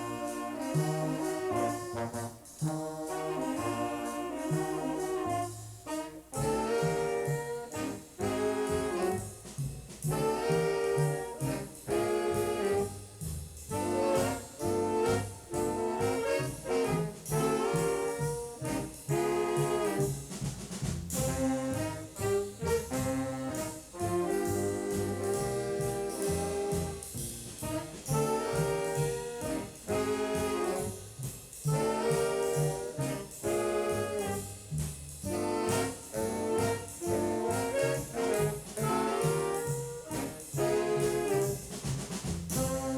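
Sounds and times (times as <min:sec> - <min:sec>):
bass and drums: 0:00.0 - 0:42.9
big band jazz: 0:00.0 - 0:42.9
brass and saxophone chords: 0:00.0 - 0:42.9.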